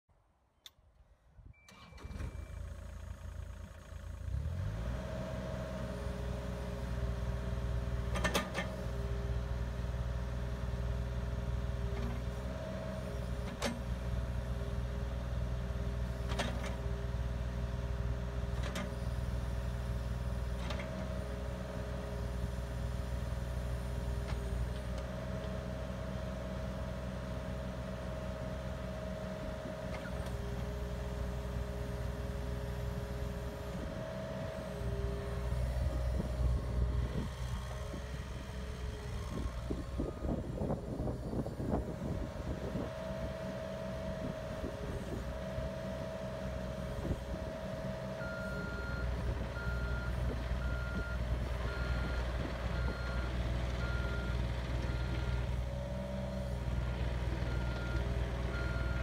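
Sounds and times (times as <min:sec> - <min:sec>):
diesel engine running: 0:01.7 - 0:59.0.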